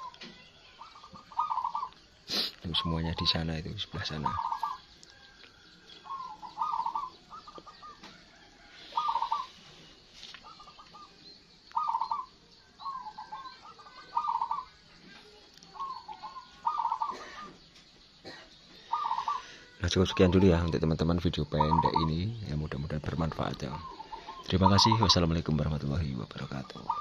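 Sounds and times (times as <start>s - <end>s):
doves cooing: 0.0s - 27.0s.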